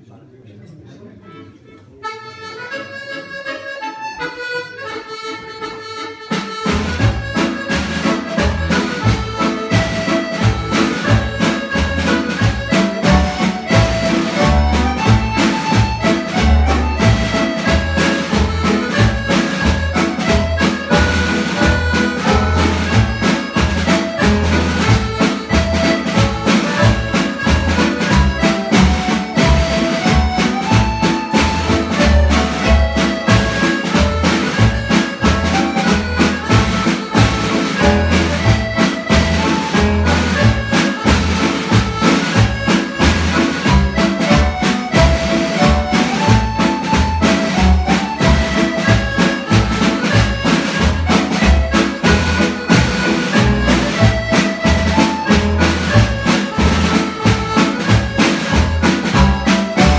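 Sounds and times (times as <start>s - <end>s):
accordion duet: 1.0s - 59.9s
steady bass beat: 9.8s - 59.9s.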